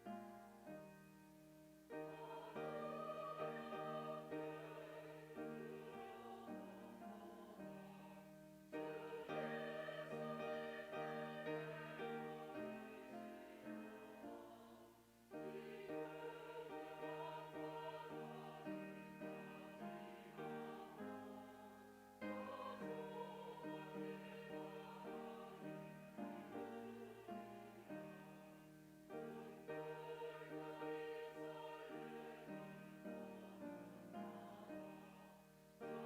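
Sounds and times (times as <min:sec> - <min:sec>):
church choir singing a hymn: 0:00.0 - 0:36.0.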